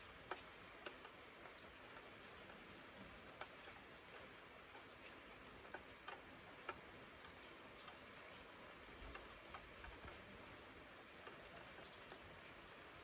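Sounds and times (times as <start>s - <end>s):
light rain hiss: 0.0s - 13.0s
raindrops ticking: 0.0s - 13.0s.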